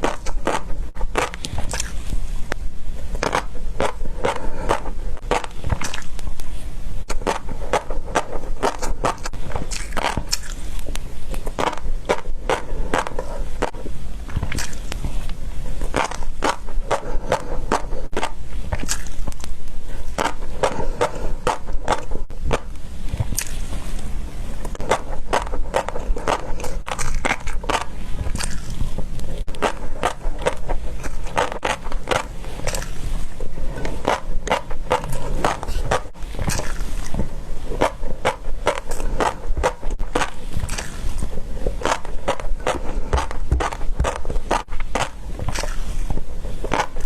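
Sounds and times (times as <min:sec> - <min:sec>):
chewing crunching fish roe: 0:00.0 - 0:47.0
low steady hum: 0:00.0 - 0:47.0.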